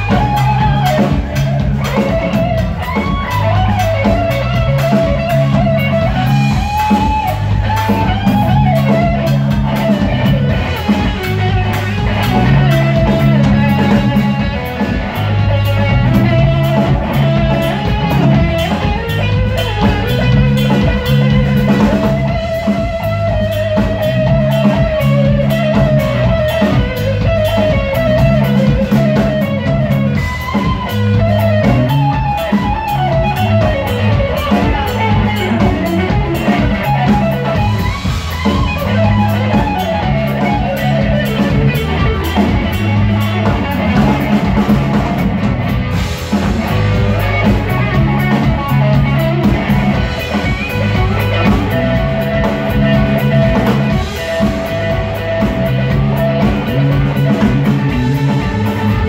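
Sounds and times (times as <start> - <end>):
bass guitar: 0.0 - 59.0
drum kit: 0.0 - 59.0
electric guitar lead: 0.0 - 59.0.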